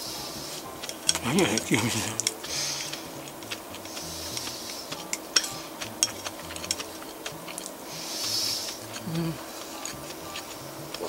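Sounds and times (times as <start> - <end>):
person chewing food: 0.4 - 11.0
chopsticks clicking against dishes: 0.7 - 11.0.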